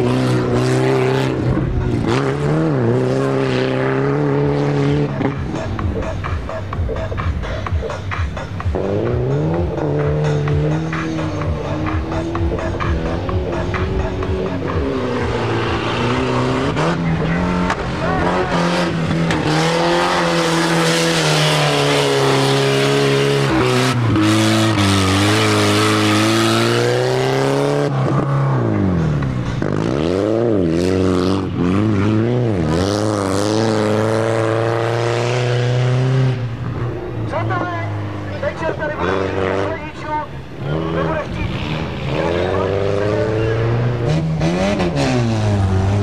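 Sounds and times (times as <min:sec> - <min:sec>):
racing engine revving: 0:00.0 - 0:46.0.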